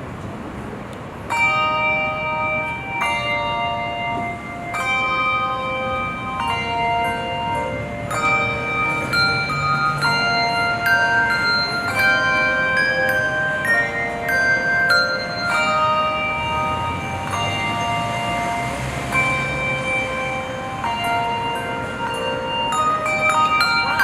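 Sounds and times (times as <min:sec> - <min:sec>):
handbell choir ringing chords: 0:01.3 - 0:24.0.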